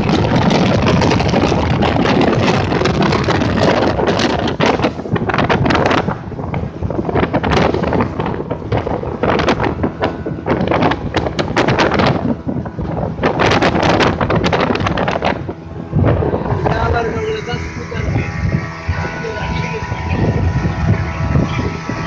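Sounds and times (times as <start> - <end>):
boat engine rumbling: 0.0 - 22.0
wind buffeting microphone: 0.0 - 22.0.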